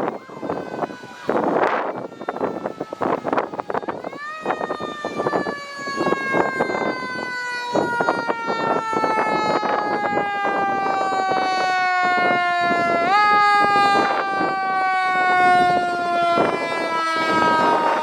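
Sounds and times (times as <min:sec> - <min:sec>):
mechanical siren winding down: 0:00.0 - 0:18.0
passing vehicles: 0:00.0 - 0:18.0.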